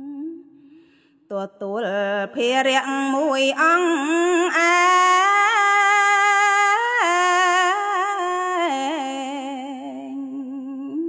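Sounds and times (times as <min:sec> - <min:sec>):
woman singing chanted verse: 0:00.0 - 0:11.0.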